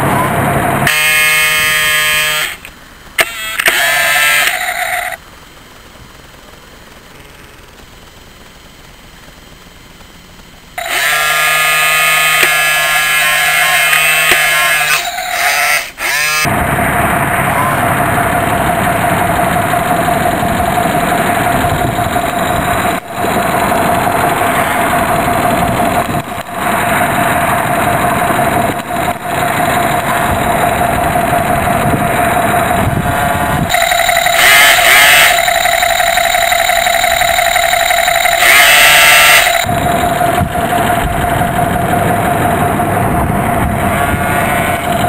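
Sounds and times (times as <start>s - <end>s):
loud sliding multi-tone whine: 0.0s - 5.2s, 10.8s - 45.0s
model boat motor whine: 0.0s - 5.2s, 10.8s - 45.0s.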